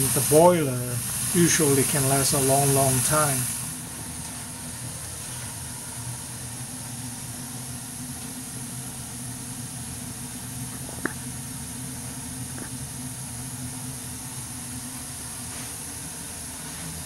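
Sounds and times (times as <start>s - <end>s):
gas boiler humming: 0.0s - 17.0s.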